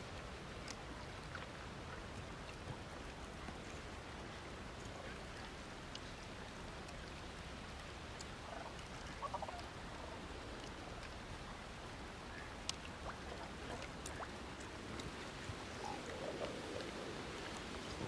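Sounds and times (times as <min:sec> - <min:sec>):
faint scattered clicks: 0:00.2 - 0:18.0.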